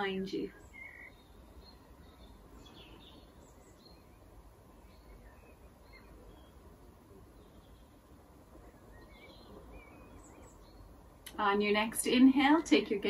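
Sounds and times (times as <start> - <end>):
distant bird chirps: 0.0 - 11.4
faint outdoor rumble: 0.0 - 13.0.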